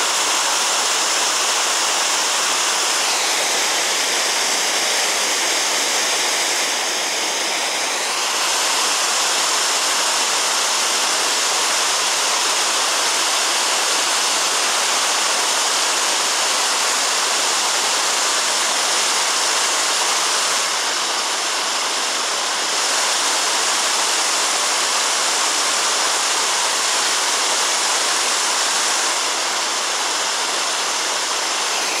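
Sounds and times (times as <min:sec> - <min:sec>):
creek rushing over boulders: 0:00.0 - 0:32.0.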